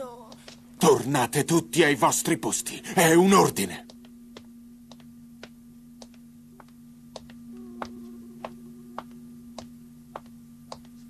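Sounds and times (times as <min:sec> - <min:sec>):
low electronic hum: 0:00.0 - 0:11.0.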